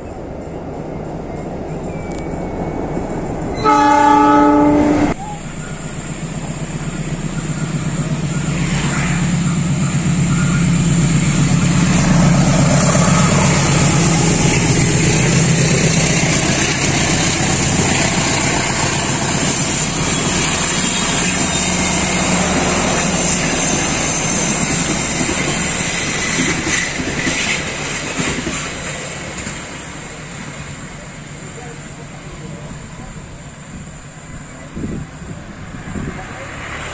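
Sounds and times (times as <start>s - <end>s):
diesel locomotive engine drone: 0.0s - 36.9s
train wheels rolling on rails: 5.1s - 36.9s.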